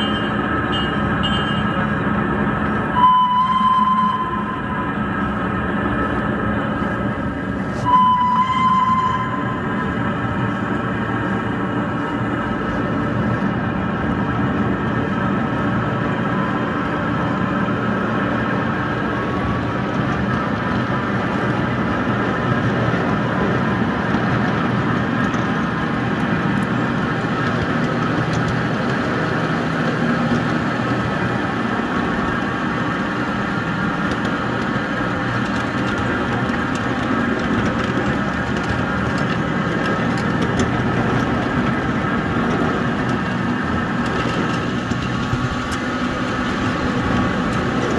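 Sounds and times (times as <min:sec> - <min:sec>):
small locomotive engine running: 0:00.0 - 0:47.9.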